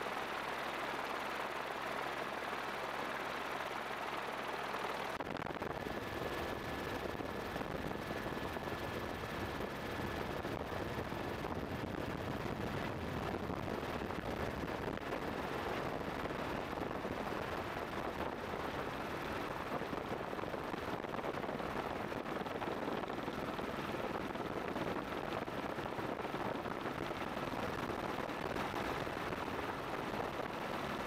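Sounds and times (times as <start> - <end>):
faint steady whine: 0.0 - 31.0
helicopter roar: 0.0 - 31.0.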